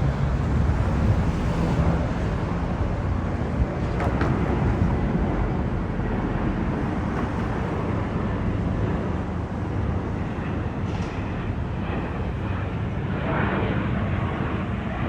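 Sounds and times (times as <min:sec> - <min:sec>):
distant airplane rumble: 0:00.0 - 0:15.0.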